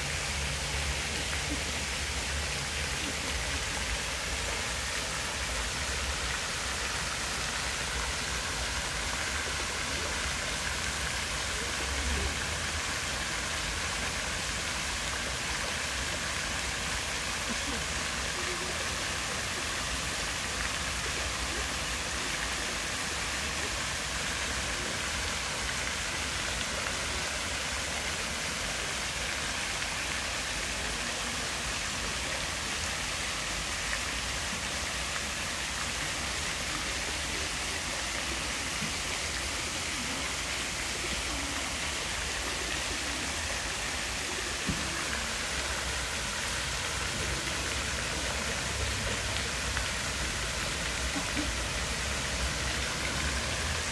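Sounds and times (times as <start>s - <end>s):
fountain jets splashing into pool: 0.0s - 53.9s.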